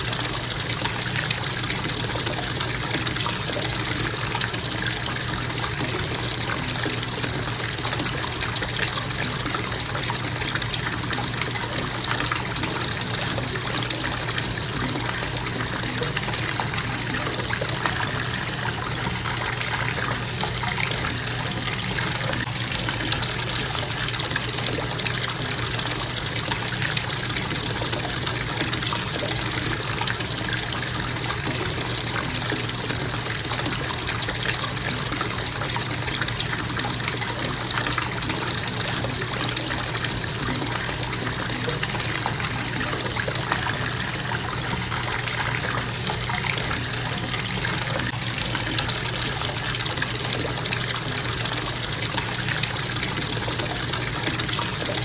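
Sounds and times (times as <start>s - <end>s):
faucet water splashing into tub: 0.0s - 55.0s.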